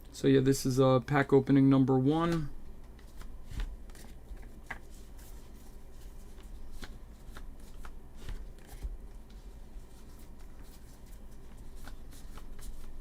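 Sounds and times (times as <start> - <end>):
trading cards being flipped through: 2.1 - 13.0.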